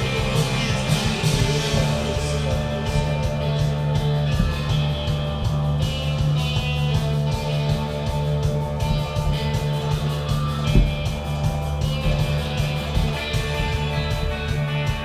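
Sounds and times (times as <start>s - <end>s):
rock song with guitar: 0.0s - 15.0s.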